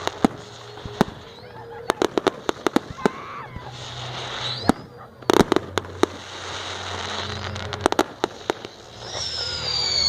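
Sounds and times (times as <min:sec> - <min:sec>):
firework bangs: 0:00.0 - 0:10.0
firework crackle: 0:00.0 - 0:10.0
firework whistle: 0:00.0 - 0:10.0.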